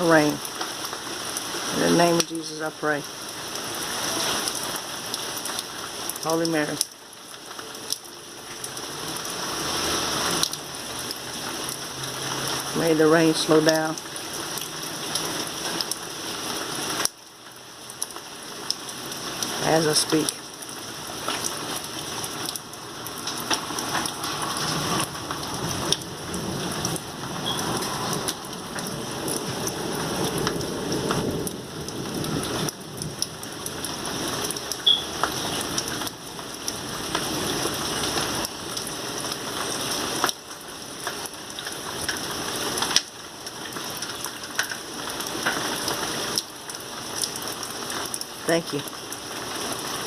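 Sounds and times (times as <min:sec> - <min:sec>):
heavy rain hissing: 0:00.0 - 0:50.0
raindrops tapping a surface: 0:00.0 - 0:50.0.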